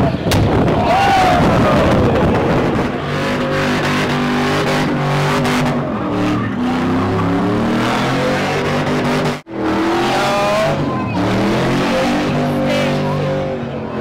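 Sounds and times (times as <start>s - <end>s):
truck engine at high revs: 0.0s - 14.0s.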